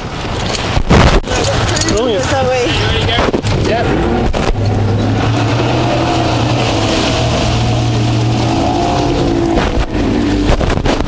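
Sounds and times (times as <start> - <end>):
water noise: 0.0 - 11.0
wind buffeting microphone: 0.0 - 11.0
outboard motors running: 0.1 - 11.0.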